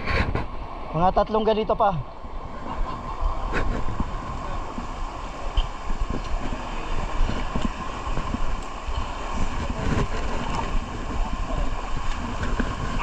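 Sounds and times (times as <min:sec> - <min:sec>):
river water rushing: 0:00.0 - 0:13.0
wind buffeting microphone: 0:02.1 - 0:13.0.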